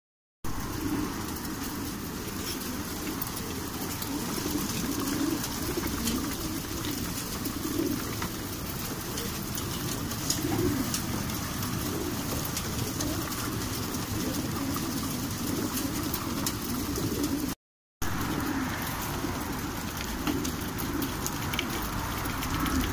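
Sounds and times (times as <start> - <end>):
pigeons cooing: 0.5 - 22.9.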